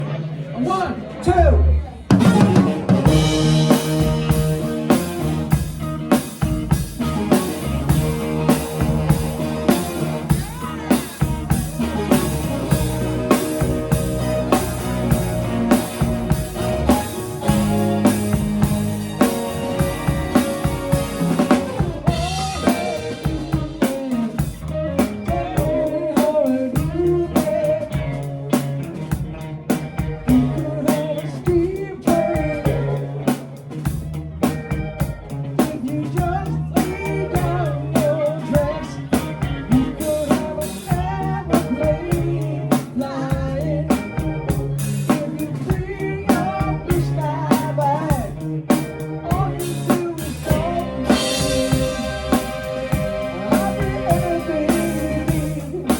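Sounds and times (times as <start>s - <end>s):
bass line: 0.0s - 55.9s
guitar: 0.0s - 55.9s
rock drum beat: 2.1s - 55.9s
wavering melodic lead line: 2.1s - 55.9s.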